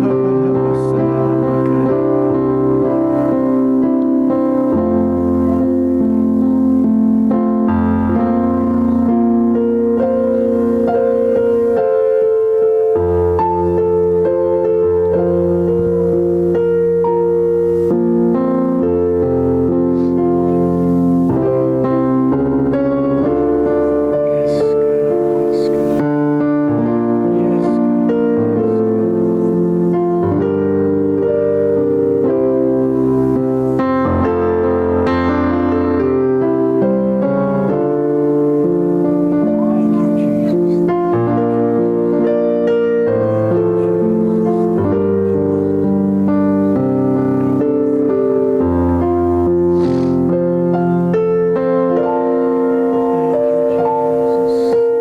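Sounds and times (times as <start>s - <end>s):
electric piano chords: 0.0s - 55.0s.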